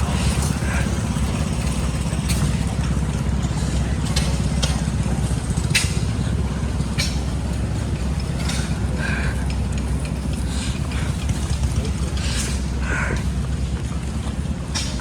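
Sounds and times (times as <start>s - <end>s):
stationary gas engines running: 0.0s - 15.0s.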